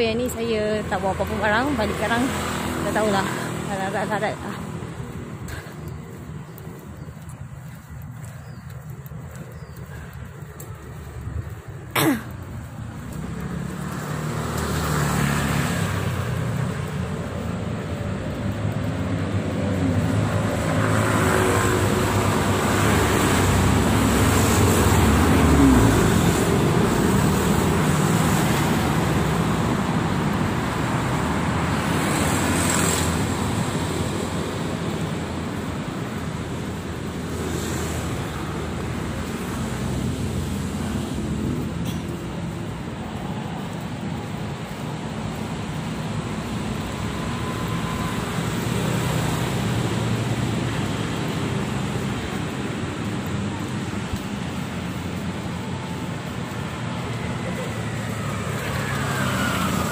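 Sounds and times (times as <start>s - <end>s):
scooters and cars passing: 0.0s - 59.9s.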